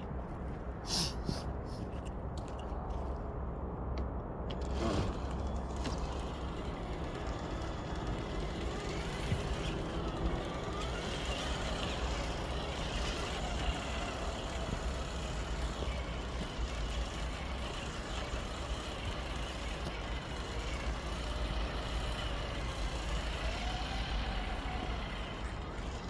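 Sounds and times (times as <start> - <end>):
highway traffic rumble: 0.0 - 26.0.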